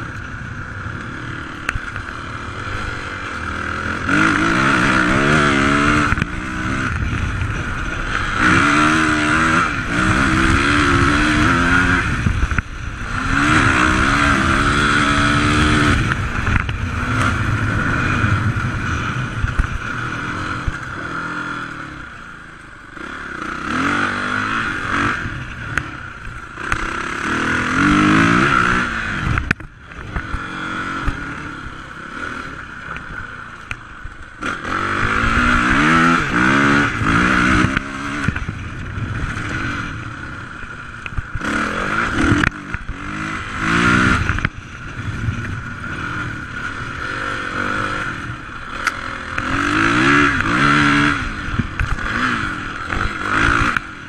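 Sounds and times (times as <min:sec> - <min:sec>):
dirt bike engine accelerating: 0:00.0 - 0:54.0.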